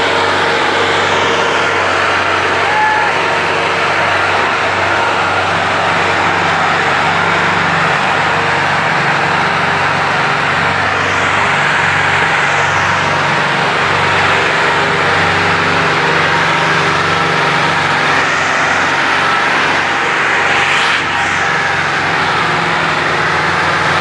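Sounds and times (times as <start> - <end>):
tractor diesel engines running: 0.0 - 24.0.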